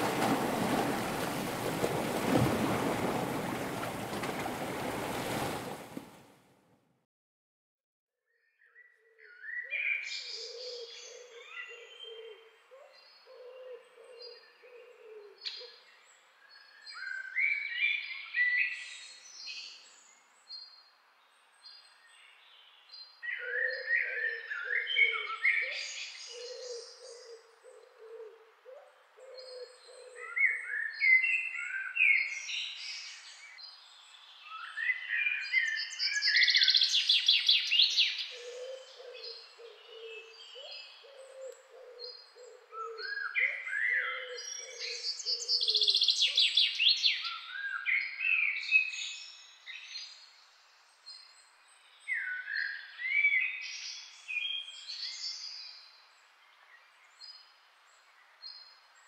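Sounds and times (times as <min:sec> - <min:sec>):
songbirds chirping: 0:08.4 - 0:59.0.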